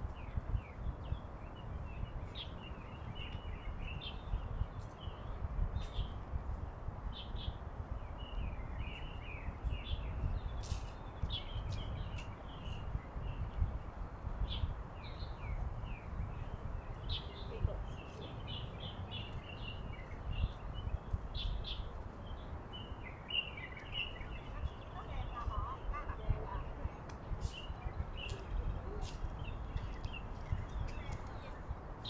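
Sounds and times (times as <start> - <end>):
small birds chirping: 0.1 - 32.0.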